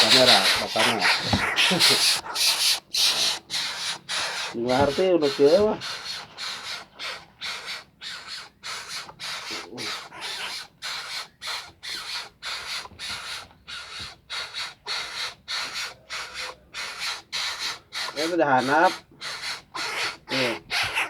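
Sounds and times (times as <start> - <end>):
bird hoarse rasping calls: 0.0 - 21.0.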